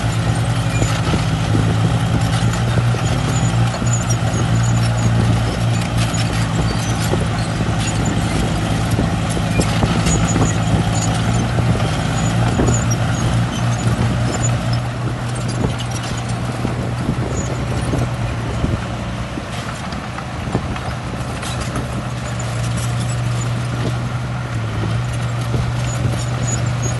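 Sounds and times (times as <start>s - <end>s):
diesel machinery droning: 0.0s - 26.9s.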